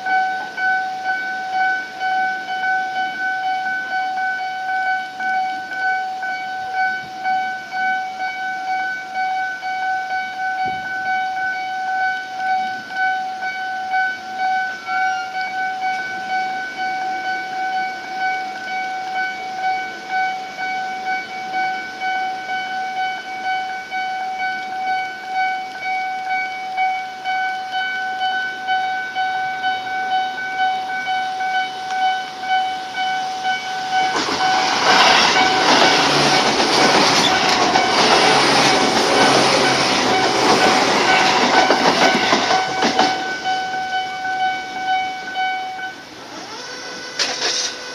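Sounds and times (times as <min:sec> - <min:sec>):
level-crossing alarm ringing: 0:00.0 - 0:47.9.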